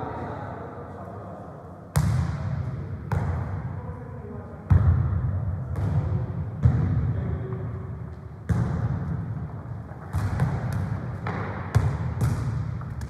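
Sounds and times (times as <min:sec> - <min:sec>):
football thudding in echoing hall: 0:00.0 - 0:13.0.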